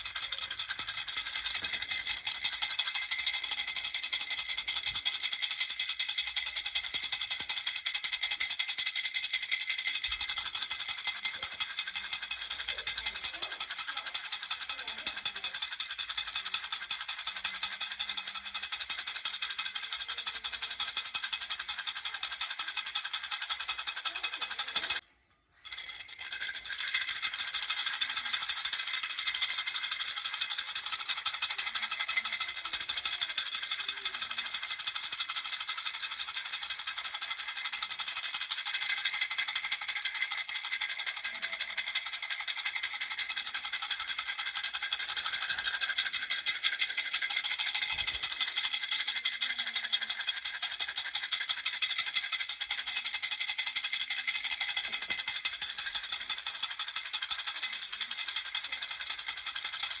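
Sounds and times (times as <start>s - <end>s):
baby rattle shaking: 0.0s - 60.0s.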